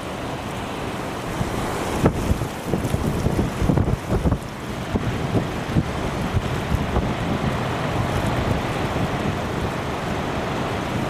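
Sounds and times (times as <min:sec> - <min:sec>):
surf breaking on rocks: 0:00.0 - 0:11.0
wind buffeting microphone: 0:01.1 - 0:11.0.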